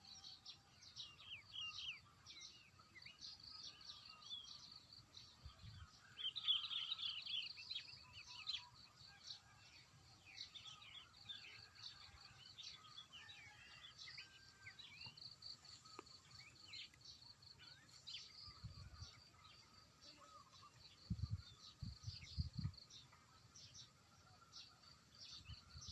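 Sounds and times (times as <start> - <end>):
birds chirping and singing: 0.0 - 25.9.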